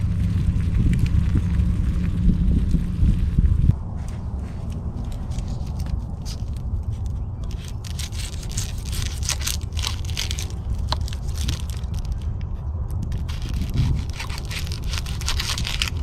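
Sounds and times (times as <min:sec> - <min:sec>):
campfire crackling: 0:00.0 - 0:16.0
low rumble: 0:00.0 - 0:16.0
scraping: 0:01.0 - 0:16.0.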